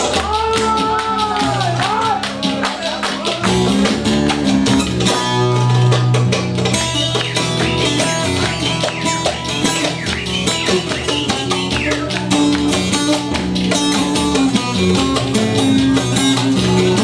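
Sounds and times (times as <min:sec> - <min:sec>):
quick percussion beat: 0:00.0 - 0:17.0
plucked string instrument melody: 0:01.3 - 0:17.0.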